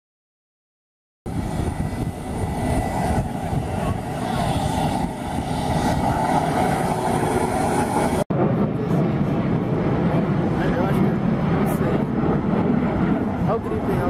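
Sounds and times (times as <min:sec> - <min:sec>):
military jet flying over: 0:01.3 - 0:14.0.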